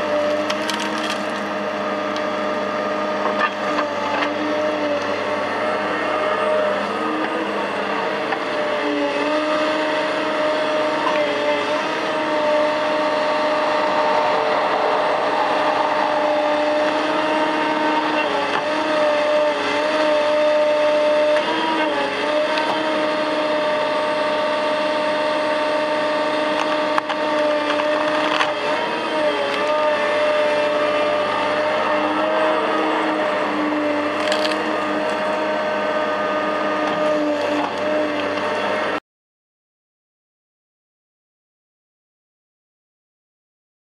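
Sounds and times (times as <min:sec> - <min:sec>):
excavator diesel engine droning: 0:00.0 - 0:39.0.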